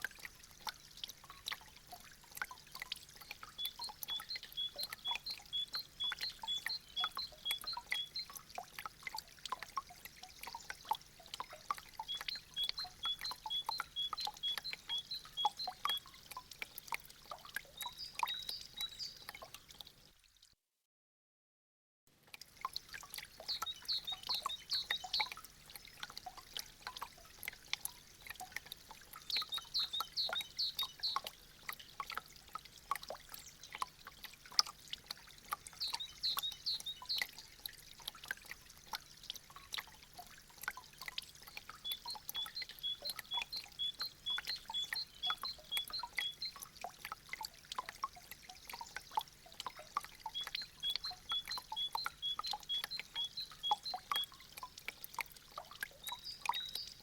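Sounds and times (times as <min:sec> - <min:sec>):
meltwater dripping and trickling: 0:00.0 - 0:20.5, 0:22.1 - 0:57.0.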